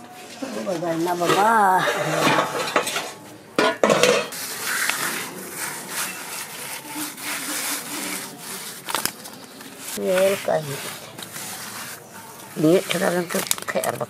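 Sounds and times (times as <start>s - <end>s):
fish scraping on hard ground: 0.3s - 3.2s, 3.8s - 14.0s.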